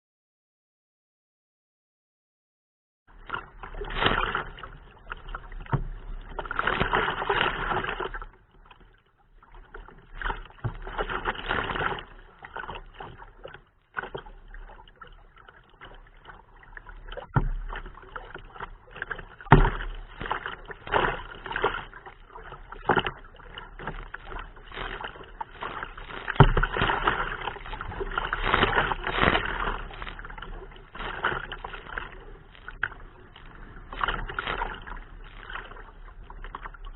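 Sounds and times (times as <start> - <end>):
paddle strokes: 3.1 - 36.9
water splashing against hull: 3.1 - 36.9.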